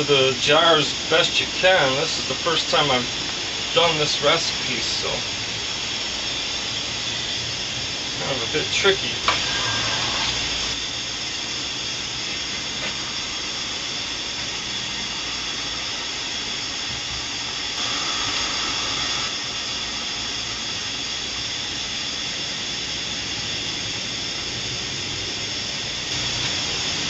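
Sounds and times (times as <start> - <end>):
boiling pots hissing: 0.0 - 27.0.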